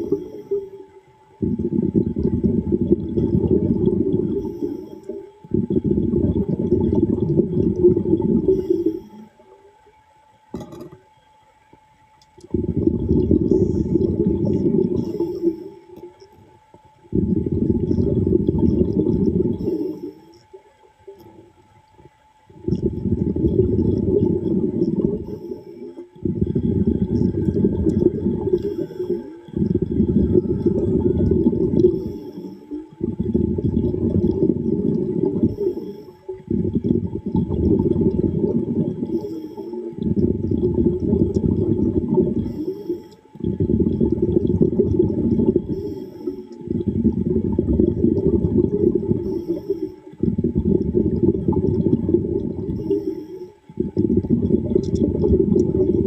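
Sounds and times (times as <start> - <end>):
diver exhaling bubbles underwater: 1.4 - 9.3, 12.4 - 16.2, 17.1 - 20.4, 22.5 - 56.0.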